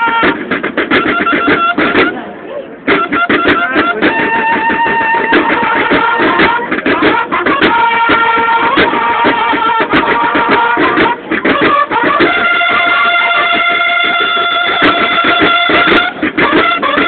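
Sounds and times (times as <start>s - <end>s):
bugles sustained notes: 0.0s - 17.0s
rapid drumming: 0.0s - 17.0s.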